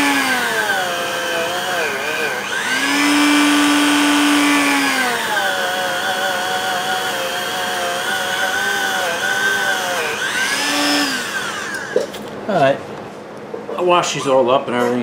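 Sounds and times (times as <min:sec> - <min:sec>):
rotary tool whine: 0:00.0 - 0:12.4.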